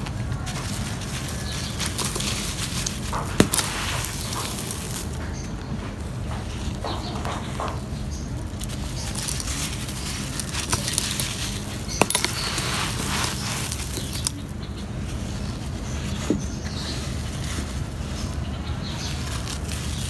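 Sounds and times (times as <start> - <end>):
sand and gravel crunching: 0.0 - 20.0.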